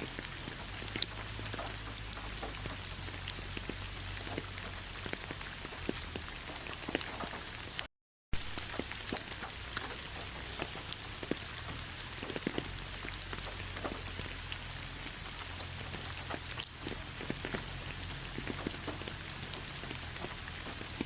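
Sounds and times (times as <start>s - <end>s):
rain pattering on leaves: 0.0s - 21.0s.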